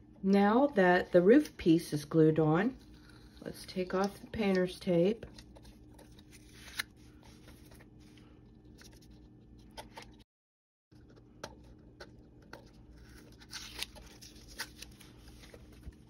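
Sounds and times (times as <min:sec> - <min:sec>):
low steady hum: 0:00.0 - 0:10.2, 0:11.0 - 0:16.0.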